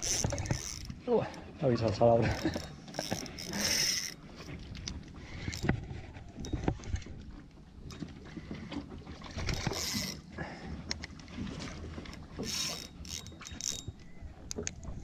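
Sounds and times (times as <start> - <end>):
fishing tackle clicks and knocks: 0.0 - 1.0, 1.8 - 15.0.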